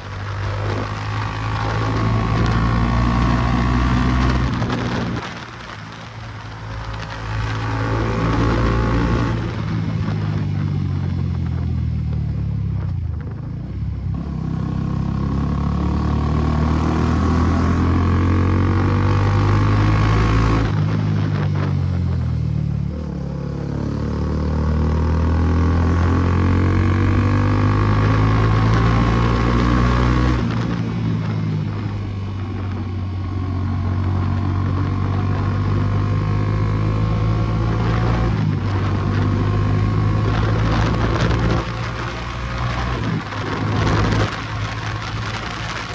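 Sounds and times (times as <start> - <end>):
motorcycle engine revving through gears: 0.0 - 45.9.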